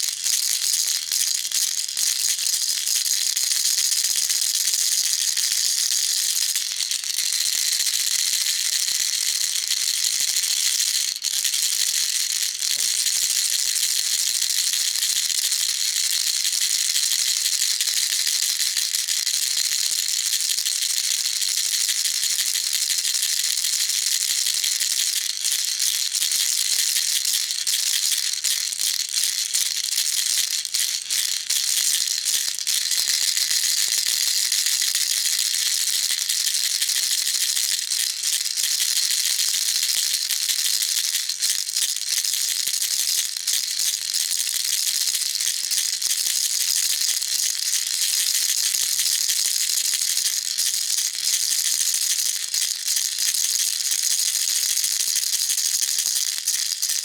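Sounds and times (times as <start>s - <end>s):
baby rattle shaken: 0.0s - 19.0s, 20.2s - 57.0s.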